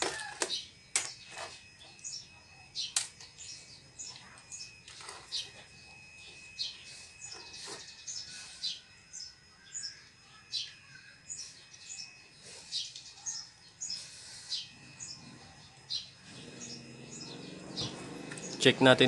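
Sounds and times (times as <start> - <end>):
faint high-pitched tone: 0.0 - 19.0
small birds chirping: 0.2 - 19.0.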